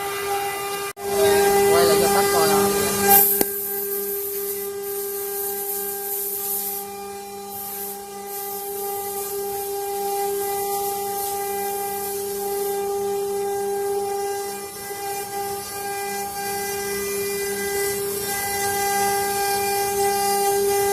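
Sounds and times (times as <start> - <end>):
router spindle whine: 0.0 - 20.9
bit cutting wood rasping hiss: 0.2 - 20.9.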